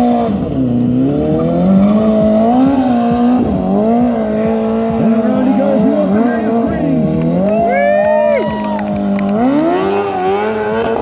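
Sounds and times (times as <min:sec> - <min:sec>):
motorcycle engine at high revs: 0:00.0 - 0:07.5, 0:08.9 - 0:11.0.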